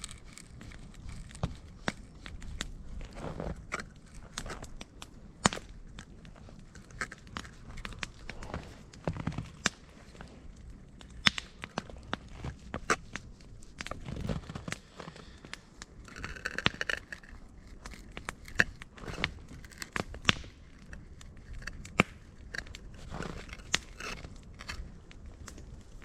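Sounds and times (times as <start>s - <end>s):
campfire crackling: 0.0s - 26.0s
sharp snaps and pops: 0.0s - 26.0s.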